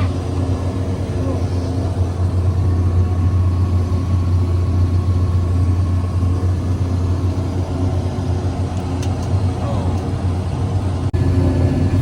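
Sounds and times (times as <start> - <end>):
harvester engine droning: 0.0 - 12.0.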